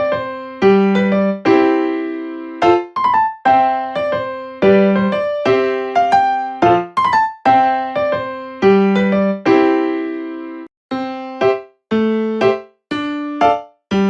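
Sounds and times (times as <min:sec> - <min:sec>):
gentle piano tune: 0:00.0 - 0:14.0.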